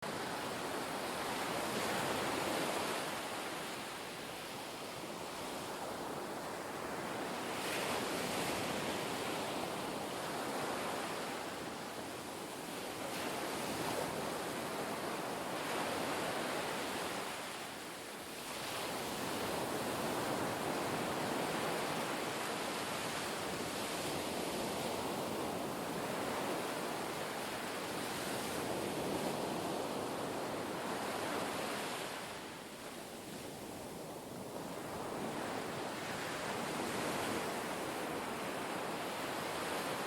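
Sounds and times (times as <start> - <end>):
sea water rushing and surging: 0.0 - 40.0
wind: 0.0 - 40.0.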